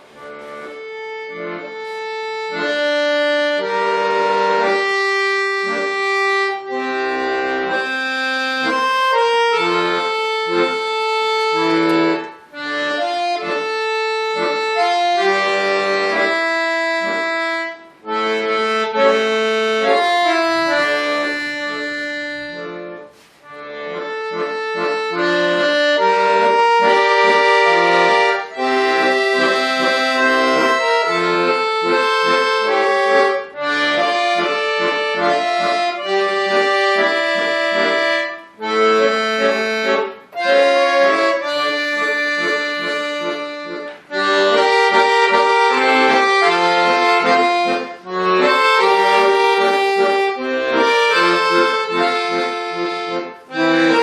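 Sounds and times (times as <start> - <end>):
button accordion melody: 0.0 - 54.0.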